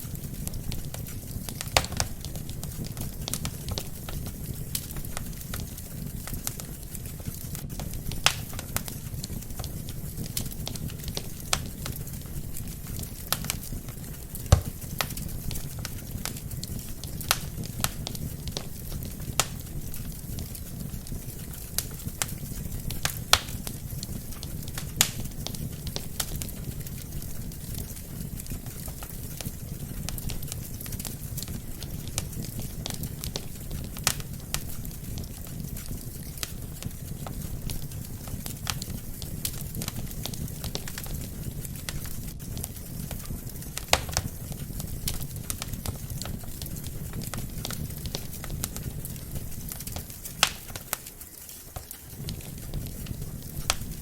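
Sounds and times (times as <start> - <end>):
logs crackling and popping: 0.0 - 54.0
low rumble of flames: 0.0 - 54.0.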